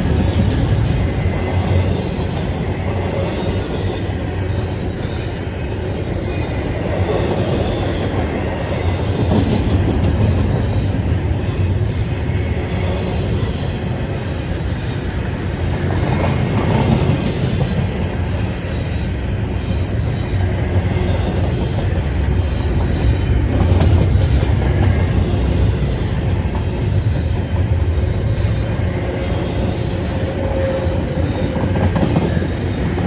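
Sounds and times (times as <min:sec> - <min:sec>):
freight train rumble: 0:00.0 - 0:33.0
train wheels clickety-clack: 0:00.0 - 0:33.0.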